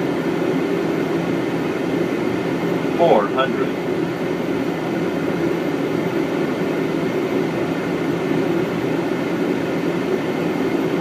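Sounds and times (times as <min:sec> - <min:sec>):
cabin air conditioning hum: 0:00.0 - 0:11.0.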